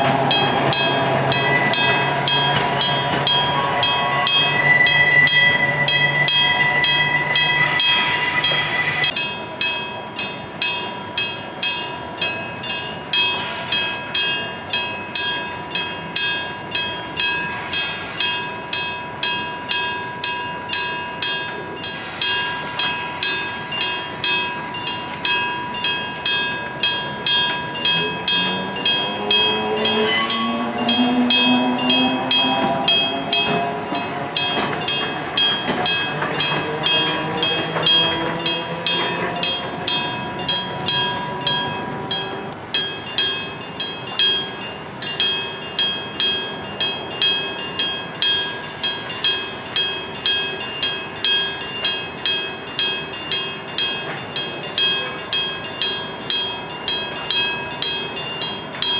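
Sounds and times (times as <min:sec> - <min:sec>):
level crossing warning bell: 0:00.0 - 0:58.9
train passing: 0:00.0 - 0:58.9.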